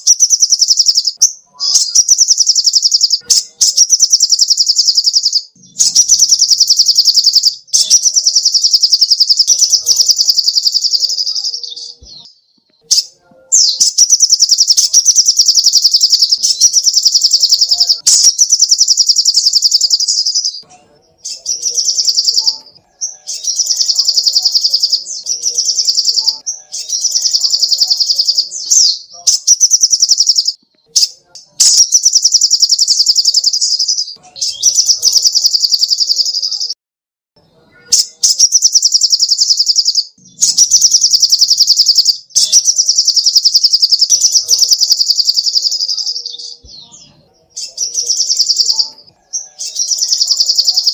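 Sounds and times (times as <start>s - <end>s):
bird singing rapid trills: 0.0s - 36.7s, 37.8s - 50.9s.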